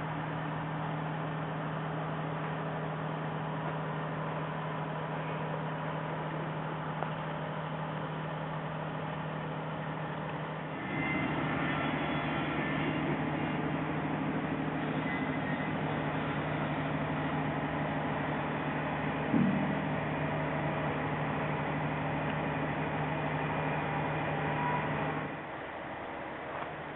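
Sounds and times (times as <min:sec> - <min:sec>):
machinery humming: 0:00.0 - 0:26.9.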